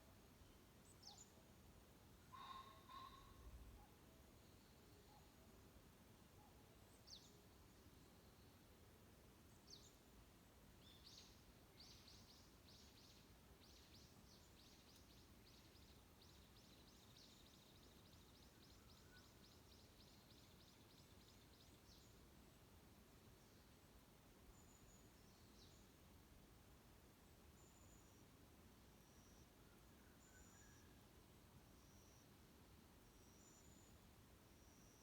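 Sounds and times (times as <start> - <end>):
forest ambience hiss: 0.0 - 35.0.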